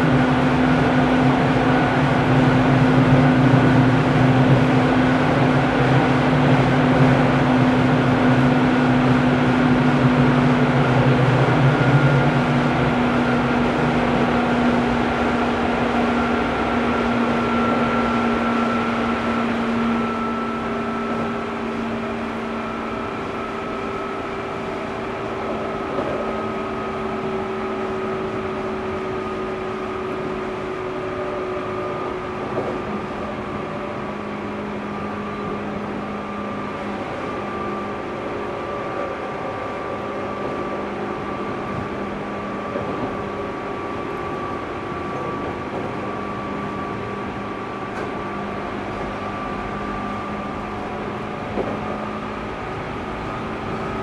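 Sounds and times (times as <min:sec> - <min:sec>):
traction motor whine: 0:00.0 - 0:54.0
train wheels rumbling on rail: 0:00.0 - 0:54.0.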